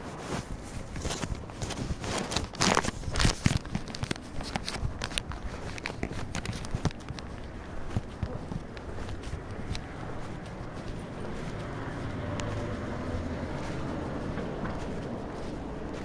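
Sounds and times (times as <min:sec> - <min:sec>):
phone microphone handling rustle: 0:00.0 - 0:16.0.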